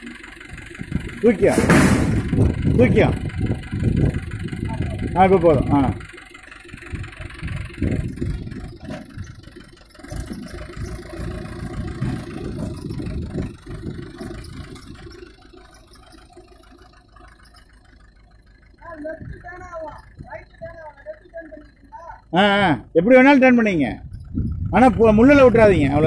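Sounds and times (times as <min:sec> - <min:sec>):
tractor diesel engine rumbling: 0:00.0 - 0:26.0.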